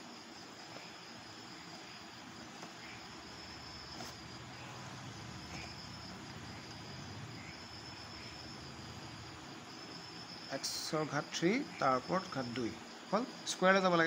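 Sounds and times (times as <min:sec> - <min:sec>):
cricket trill: 0:00.0 - 0:14.0
low background hiss: 0:00.0 - 0:14.0.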